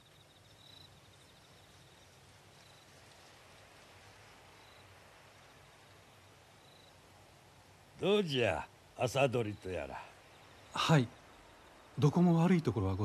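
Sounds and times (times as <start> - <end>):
faint cricket chirps: 0.0 - 13.0.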